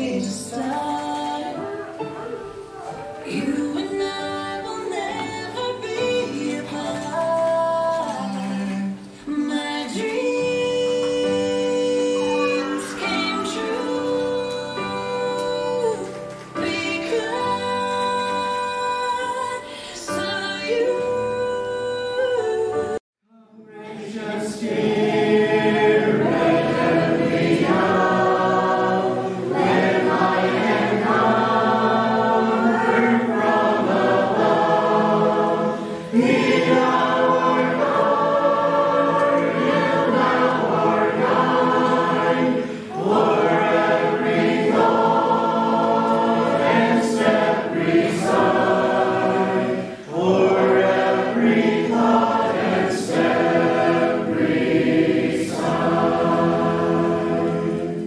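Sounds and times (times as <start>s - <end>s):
choir singing: 0.0s - 18.4s, 22.1s - 58.0s.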